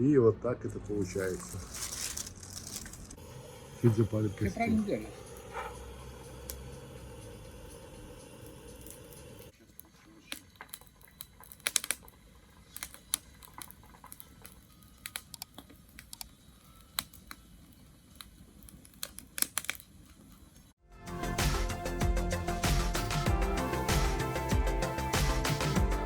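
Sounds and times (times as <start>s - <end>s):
bonfire crackling and popping: 1.0s - 26.0s.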